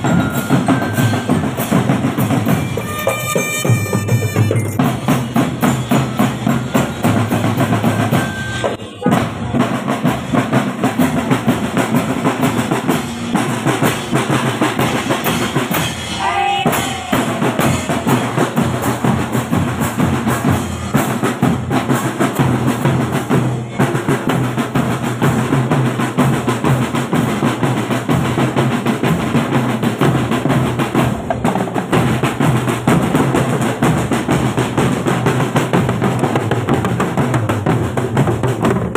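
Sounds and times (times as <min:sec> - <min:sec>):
marching drum band playing: 0:00.0 - 0:38.9.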